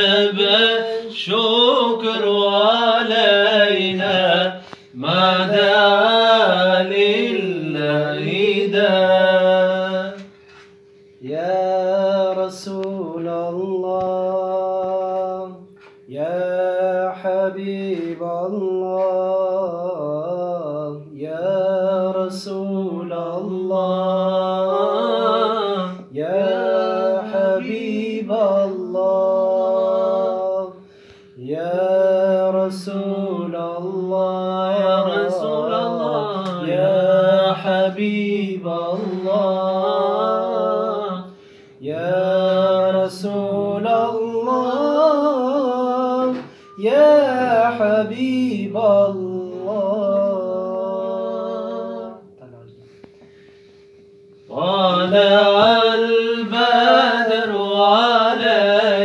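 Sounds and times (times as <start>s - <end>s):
man singing unaccompanied: 0.0s - 10.4s, 11.2s - 52.4s, 54.4s - 59.0s.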